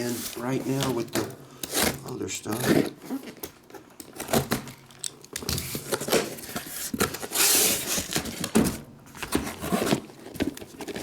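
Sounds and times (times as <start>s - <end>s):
scraping rustle of packaging: 0.0s - 4.5s, 5.5s - 11.0s.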